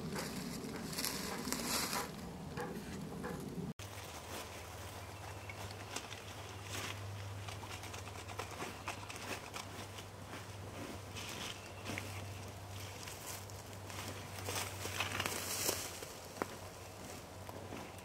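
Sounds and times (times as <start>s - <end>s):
dry leaves rustling and crackling: 0.0s - 2.2s, 3.8s - 18.0s.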